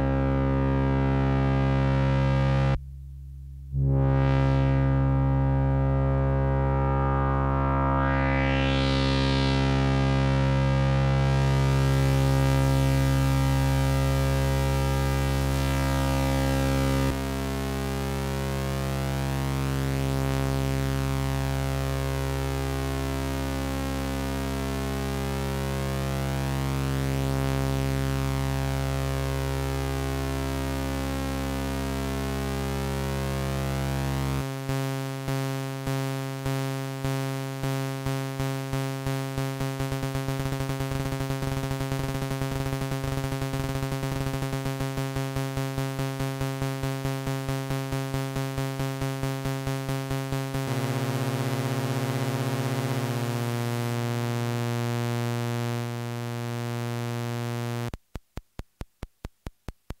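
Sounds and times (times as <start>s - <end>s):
buzzy analog synth tone: 0.0s - 2.8s, 3.7s - 58.0s.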